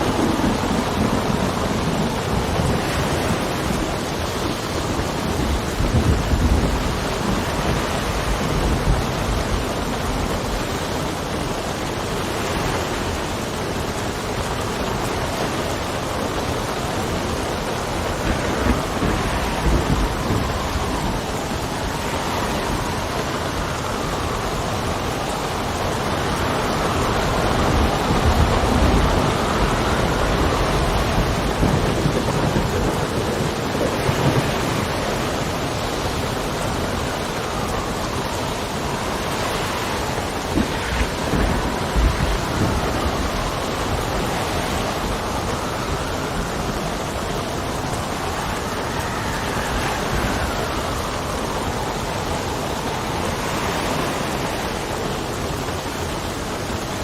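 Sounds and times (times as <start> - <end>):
gusting wind whistling: 0.0 - 57.0
heavy rain: 0.0 - 57.0
thunder rumbling: 0.0 - 57.0.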